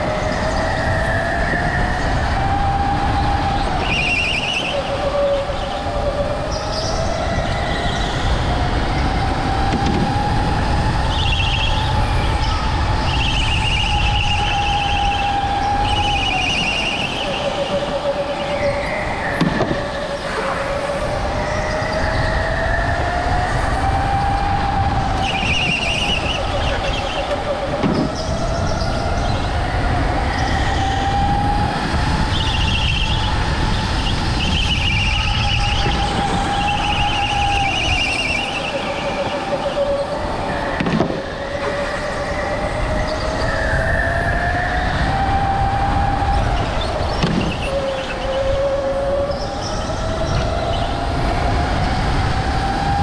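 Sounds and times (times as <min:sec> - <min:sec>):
go-kart motor whine: 0:00.0 - 0:53.0.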